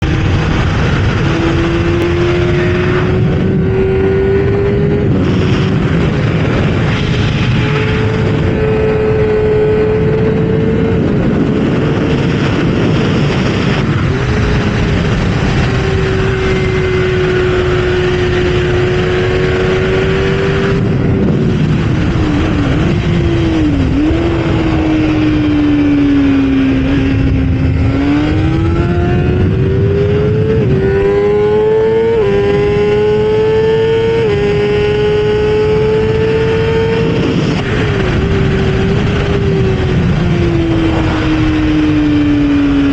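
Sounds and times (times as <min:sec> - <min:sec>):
motorcycle engine at high revs: 0:00.0 - 0:42.9
wind noise: 0:00.0 - 0:42.9.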